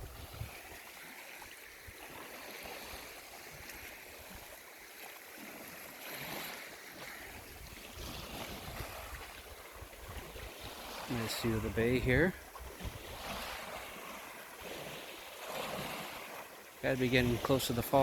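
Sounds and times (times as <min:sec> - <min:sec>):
waves washing against rocky shore: 0:00.0 - 0:18.0.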